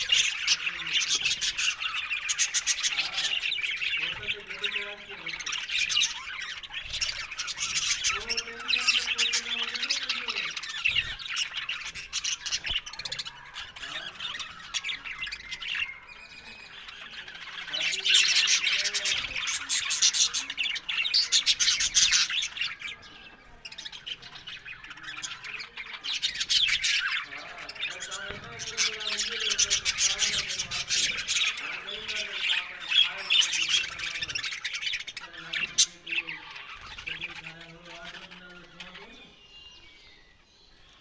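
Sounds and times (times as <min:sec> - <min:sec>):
budgerigars chattering and squawking: 0:00.0 - 0:41.0.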